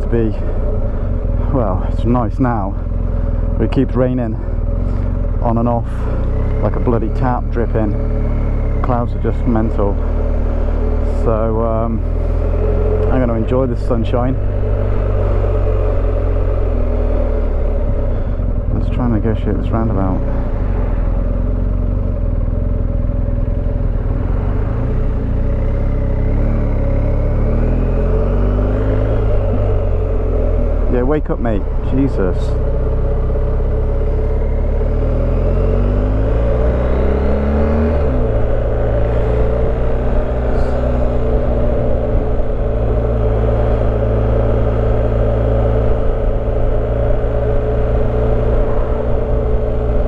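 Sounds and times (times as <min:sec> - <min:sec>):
motorcycle engine running: 0:00.0 - 0:50.0
road noise: 0:00.0 - 0:50.0.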